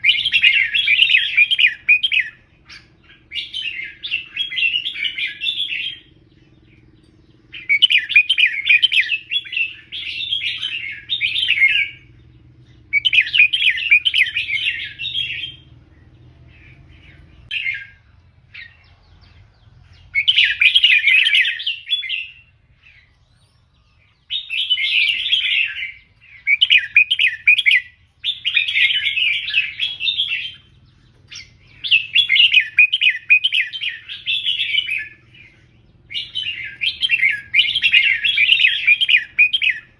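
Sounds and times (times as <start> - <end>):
bird warbling song: 0.0 - 39.9.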